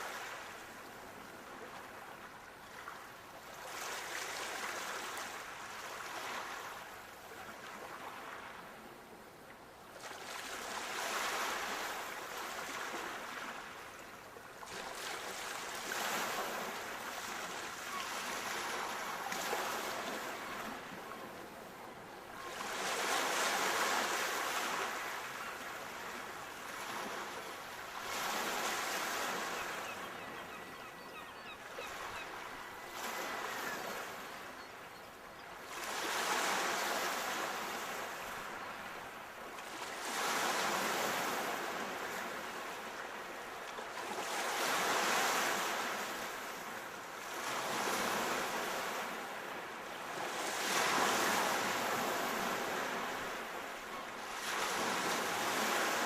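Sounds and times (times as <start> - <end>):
sea waves breaking on shore: 0.0 - 8.9, 10.0 - 21.8, 22.4 - 34.6, 35.6 - 56.0.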